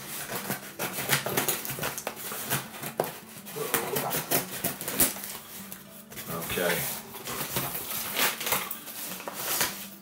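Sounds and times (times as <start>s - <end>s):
scissors cutting packing tape: 0.0s - 10.0s.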